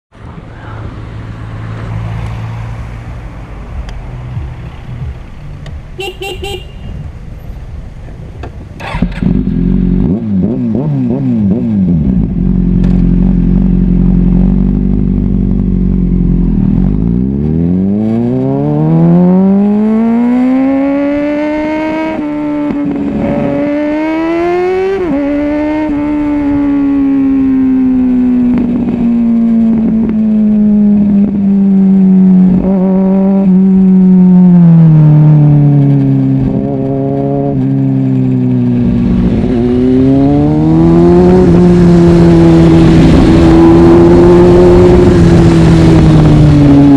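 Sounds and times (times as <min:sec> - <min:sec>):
motorcycle engine revving: 0:08.8 - 0:46.9.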